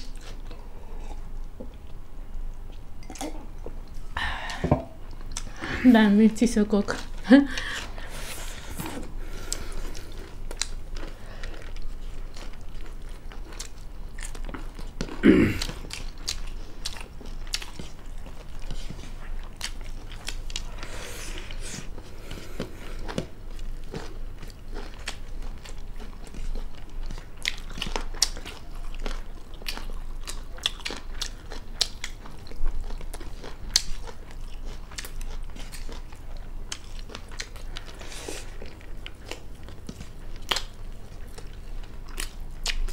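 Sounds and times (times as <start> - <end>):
wet chewing and crunching: 0.0 - 4.1, 6.7 - 42.9.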